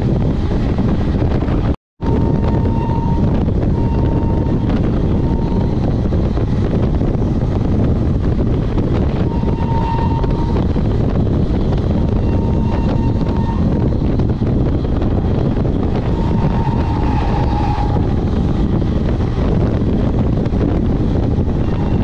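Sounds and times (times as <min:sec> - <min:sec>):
train running at speed: 0:00.0 - 0:22.0
wind buffeting microphone: 0:00.0 - 0:22.0.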